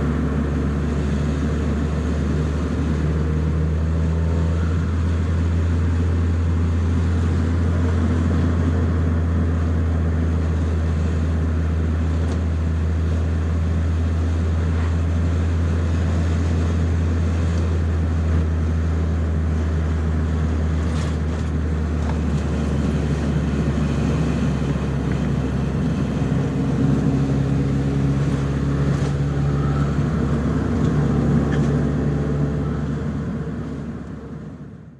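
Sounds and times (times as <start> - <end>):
car engine running at low revs: 0.0 - 34.9.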